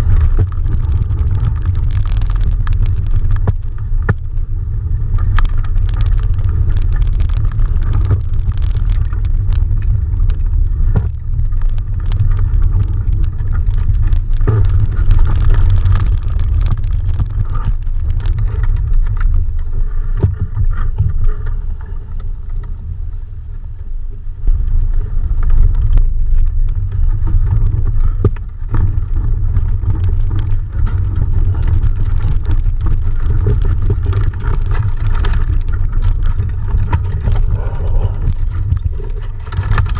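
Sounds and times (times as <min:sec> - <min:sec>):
faint clicks: 0:00.0 - 0:22.8, 0:24.4 - 0:39.9
wind buffeting microphone: 0:00.0 - 0:39.9.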